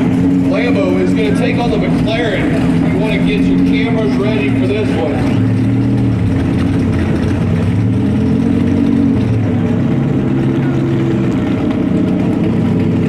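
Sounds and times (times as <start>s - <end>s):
car engine revving: 0.0s - 13.0s
car engines idling: 0.0s - 13.0s.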